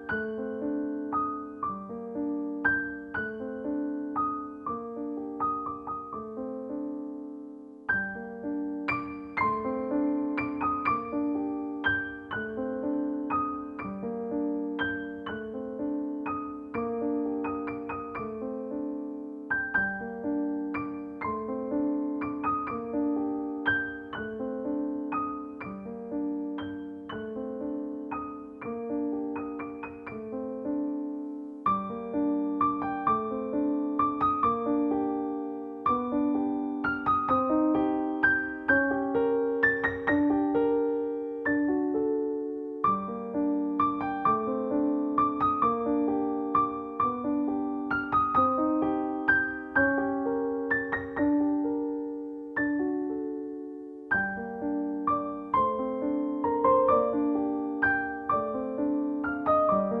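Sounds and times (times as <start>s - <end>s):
gentle piano melody: 0.0s - 60.0s.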